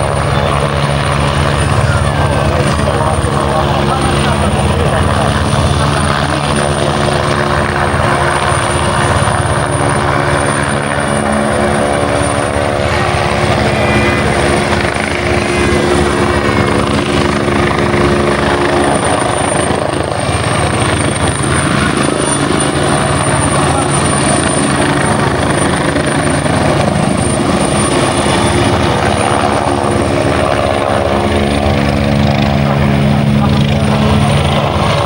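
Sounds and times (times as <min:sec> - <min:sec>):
helicopter hovering: 0:00.0 - 0:35.0.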